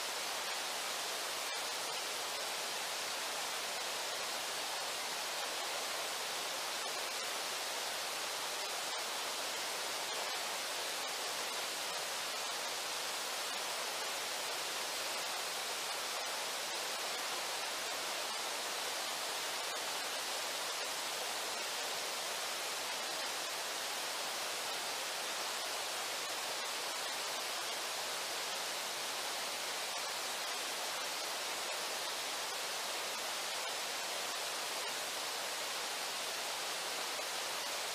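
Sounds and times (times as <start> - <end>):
river water flowing: 0.0 - 37.9.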